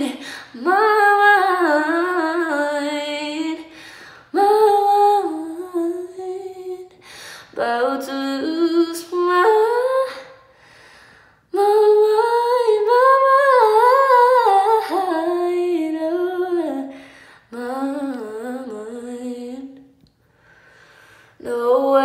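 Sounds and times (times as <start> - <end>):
woman singing unaccompanied: 0.0 - 3.7, 4.3 - 10.4, 11.6 - 16.9, 17.5 - 19.9, 21.4 - 22.0.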